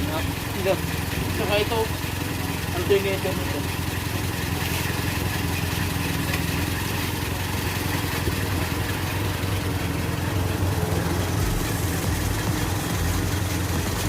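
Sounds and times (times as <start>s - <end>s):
four-cylinder engine idling: 0.0s - 14.0s.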